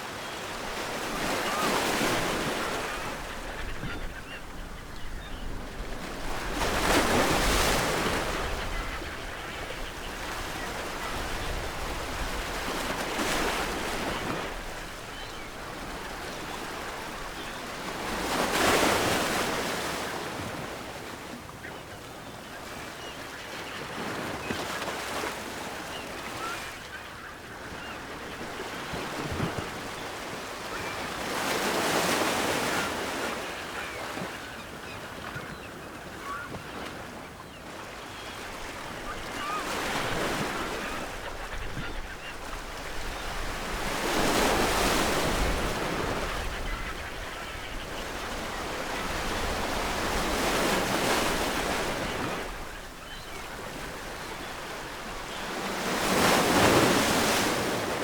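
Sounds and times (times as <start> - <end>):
ocean waves breaking on shore: 0.0 - 58.0
distant gulls calling: 0.2 - 20.7, 21.3 - 58.0.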